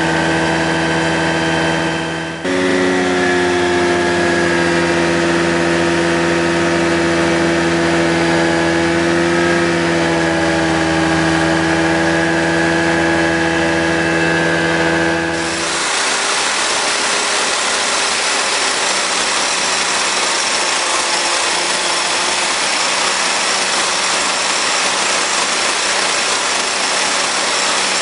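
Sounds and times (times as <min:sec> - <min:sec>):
aircraft engine drone in cockpit: 0:00.0 - 0:28.0.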